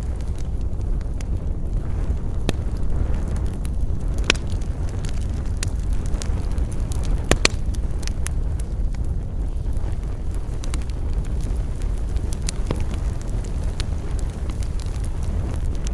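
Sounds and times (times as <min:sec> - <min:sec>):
campfire crackling: 0:00.0 - 0:15.9.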